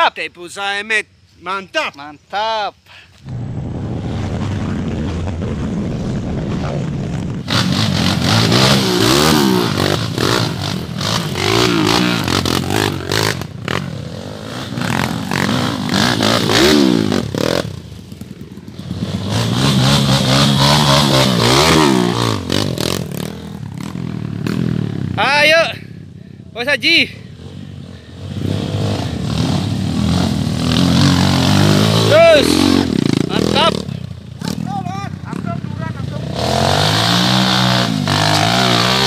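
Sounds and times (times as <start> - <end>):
dirt bike engines revving: 6.8 - 39.0.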